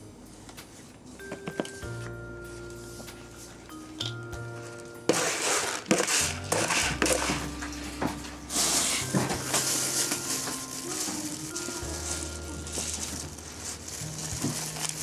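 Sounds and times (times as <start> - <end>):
soft background music: 0.0 - 15.0
rustling crunching noise: 2.5 - 15.0.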